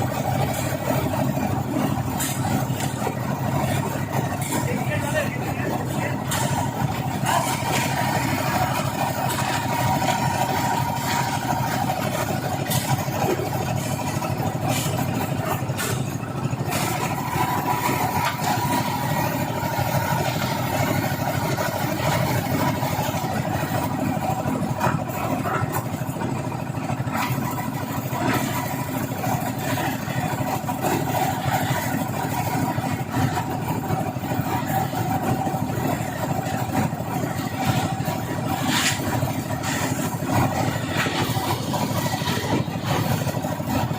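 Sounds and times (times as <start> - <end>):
engine running with whine: 0.0 - 43.9.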